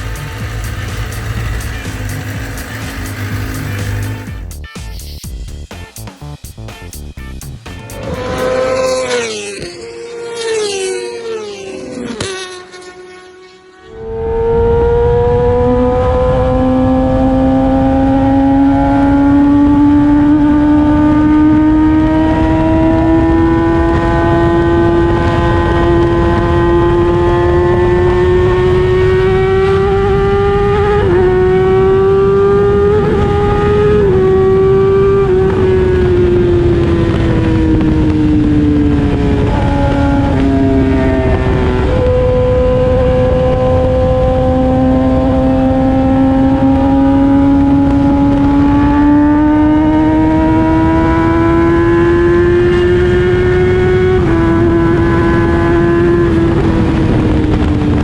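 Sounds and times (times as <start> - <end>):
wind and road noise: 0.0 - 4.4, 7.2 - 58.0
motorcycle engine revving: 0.0 - 4.8, 5.9 - 58.0.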